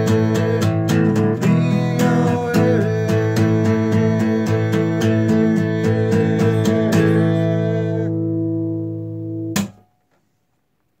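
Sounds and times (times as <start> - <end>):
acoustic guitar strumming: 0.0 - 10.2.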